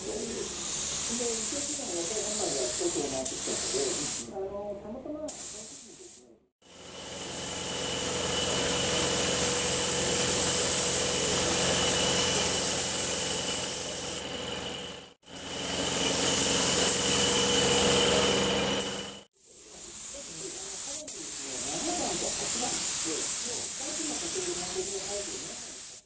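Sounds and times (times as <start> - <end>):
spray gun hissing: 0.0 - 4.3, 5.3 - 6.2, 7.6 - 14.2, 15.3 - 26.0.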